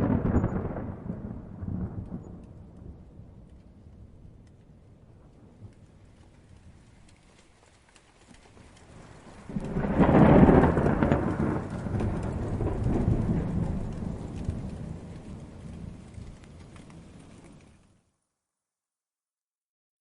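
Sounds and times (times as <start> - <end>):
thunder rumbling: 0.0 - 7.5, 8.4 - 17.9
faint rain hiss: 0.0 - 18.3.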